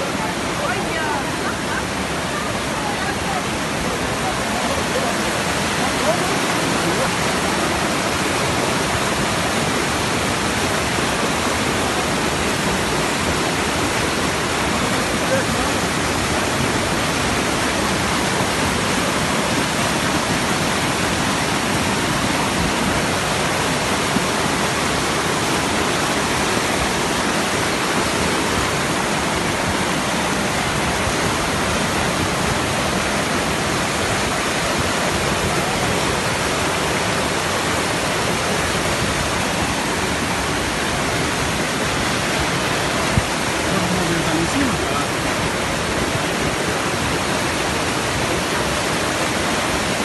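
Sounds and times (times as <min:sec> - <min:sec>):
floodwater rushing down a street: 0:00.0 - 0:50.0.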